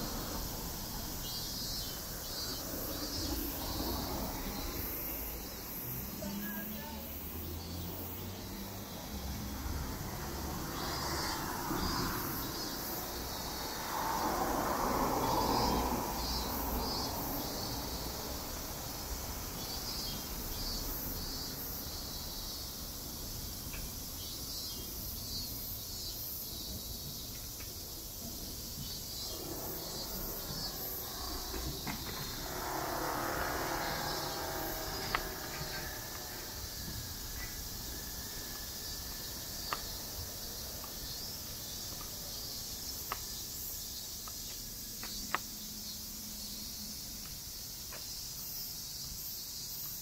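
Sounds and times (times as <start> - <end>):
traffic passing: 0.0 - 48.0
insects chirping: 0.0 - 50.0.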